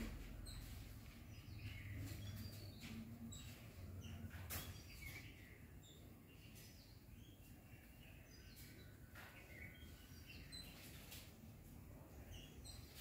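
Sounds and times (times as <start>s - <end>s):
distant bird chirps: 0.0s - 11.5s.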